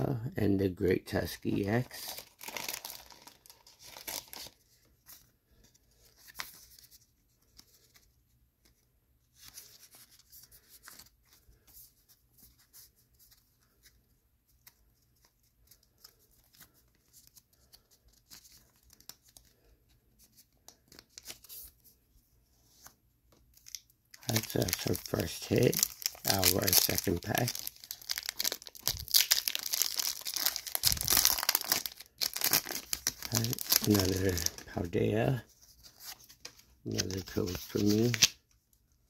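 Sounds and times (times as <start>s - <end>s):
trading card rustling: 1.1s - 38.6s.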